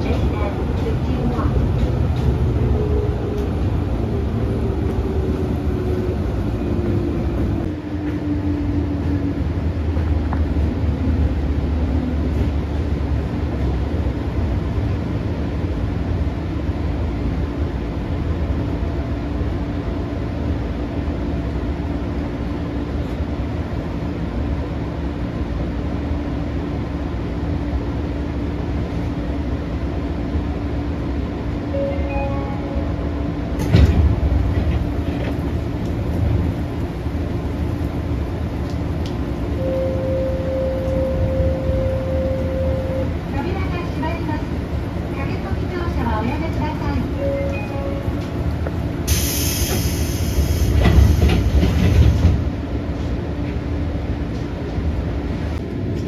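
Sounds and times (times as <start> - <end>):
train motor hum: 0.0 - 56.0
train wheels rumbling on rail: 0.0 - 56.0.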